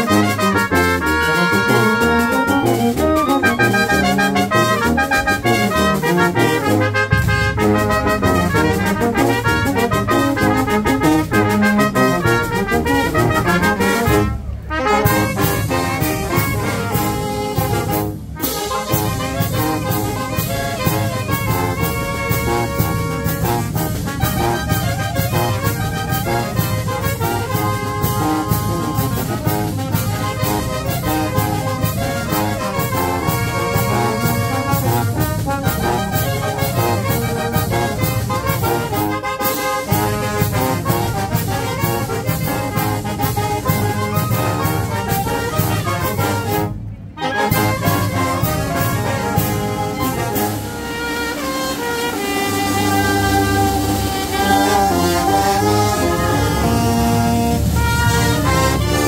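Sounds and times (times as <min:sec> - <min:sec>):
steady drum beat: 0:00.0 - 0:14.3, 0:15.0 - 0:46.8, 0:47.5 - 0:51.2, 0:51.9 - 0:59.0
wind band playing a tune: 0:00.0 - 0:59.0.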